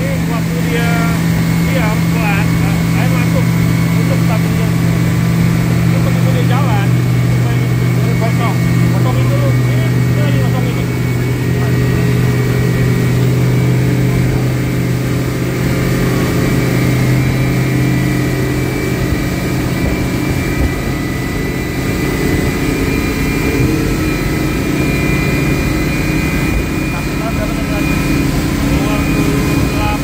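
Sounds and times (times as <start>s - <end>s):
boat wake rushing: 0.0s - 30.0s
outboard engine running: 0.0s - 30.0s.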